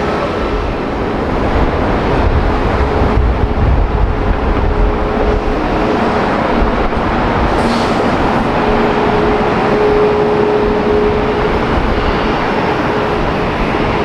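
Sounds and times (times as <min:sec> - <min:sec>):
jet airliner engines running: 0:00.0 - 0:14.0.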